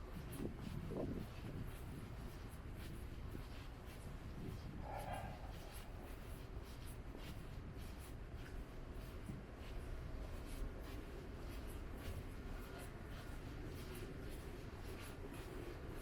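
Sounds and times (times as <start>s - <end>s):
light ticks and scuffs: 0.0s - 16.0s.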